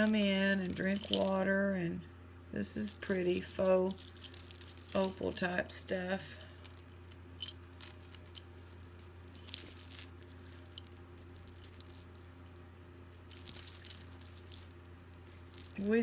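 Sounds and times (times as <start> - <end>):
jewelry clinking and jangling: 0.0 - 2.1, 2.7 - 16.0
steady low hum: 0.0 - 16.0.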